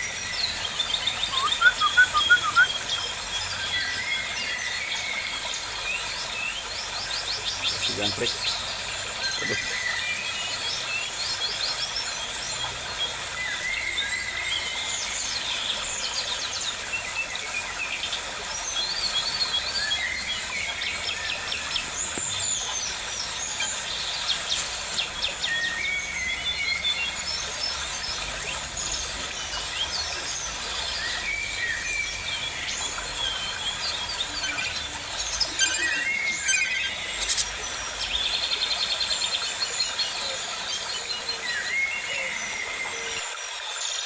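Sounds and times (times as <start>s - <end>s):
birds chirping and trilling: 0.0s - 44.0s.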